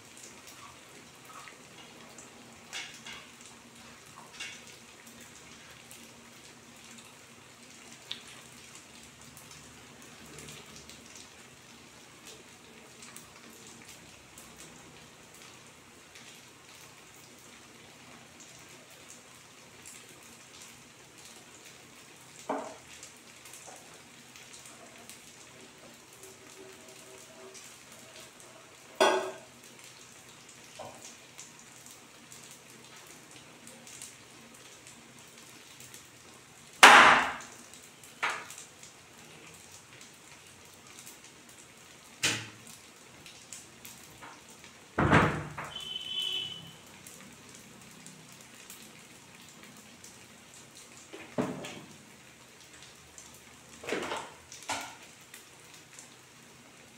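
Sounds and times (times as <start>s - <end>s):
deep-frying sizzle in hot oil: 0.0s - 56.9s.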